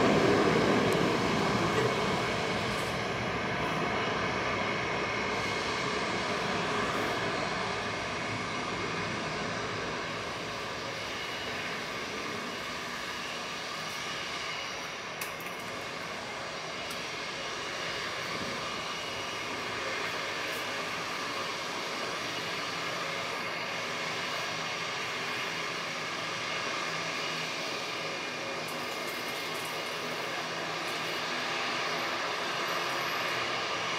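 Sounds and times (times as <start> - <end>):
jet engines running with whine: 0.0 - 33.9.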